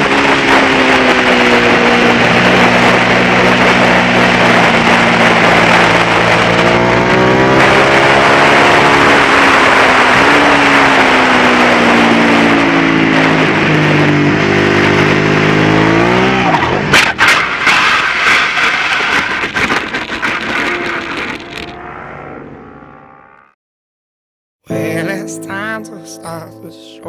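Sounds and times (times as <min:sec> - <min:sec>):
motorcycle engine running hard: 0:00.0 - 0:23.4
motorcycle sliding and tumbling: 0:00.3 - 0:22.6.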